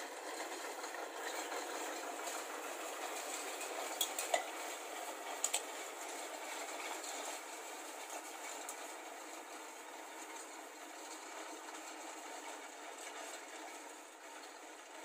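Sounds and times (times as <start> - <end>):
tractor pulling hay tedder: 0.0 - 15.0.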